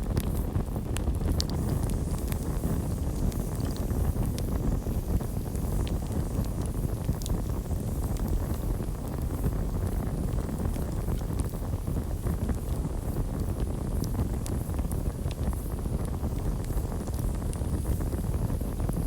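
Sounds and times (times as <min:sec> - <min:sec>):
campfire rumble: 0:00.0 - 0:19.0
crackles and pops of burning wood: 0:00.0 - 0:19.0.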